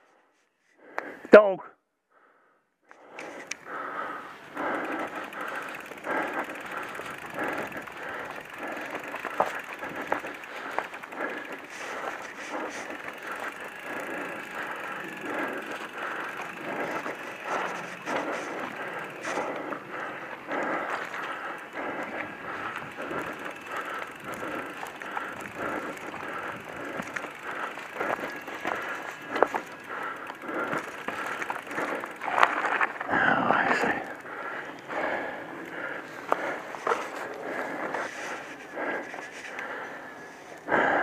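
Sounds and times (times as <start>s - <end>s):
bike knocking and rattling: 3.2s - 33.3s, 34.0s - 40.1s
bike tyres crunching on dirt: 3.2s - 41.0s.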